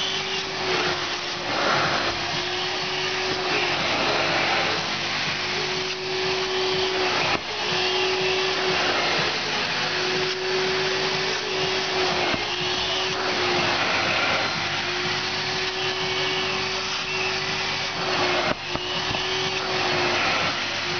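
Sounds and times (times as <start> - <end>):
vacuum motor running: 0.0 - 20.9.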